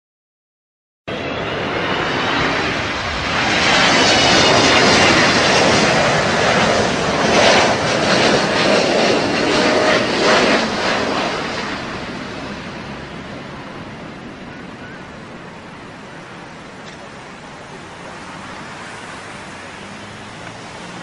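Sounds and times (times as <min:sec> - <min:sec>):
jet engines rushing whine: 0:01.1 - 0:21.0.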